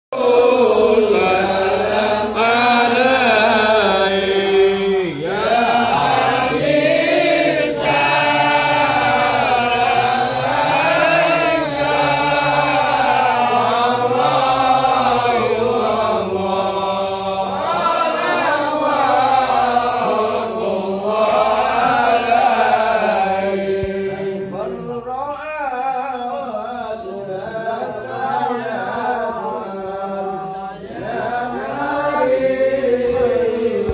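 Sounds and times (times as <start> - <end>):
men chanting over a microphone: 0.1 - 33.9.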